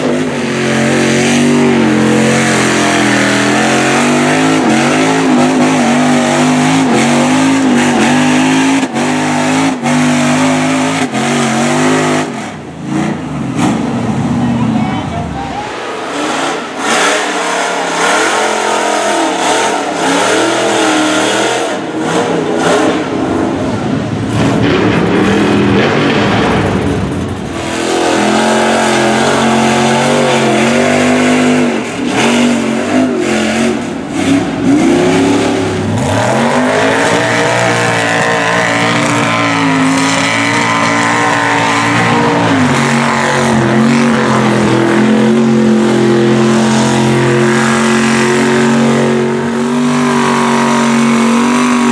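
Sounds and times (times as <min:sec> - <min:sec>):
truck engines revving hard: 0:00.0 - 0:51.9.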